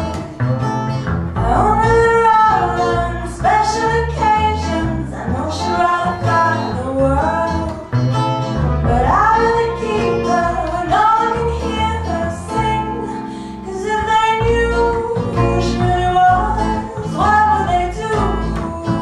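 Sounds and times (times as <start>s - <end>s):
guitar accompaniment: 0.0s - 19.0s.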